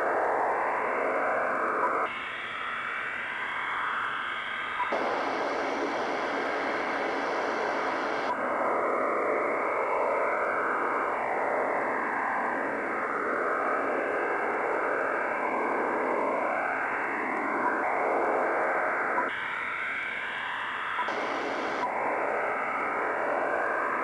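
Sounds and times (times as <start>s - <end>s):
radio static hiss: 0.0s - 11.9s, 13.7s - 24.0s
faint wavering radio signal: 0.0s - 24.0s.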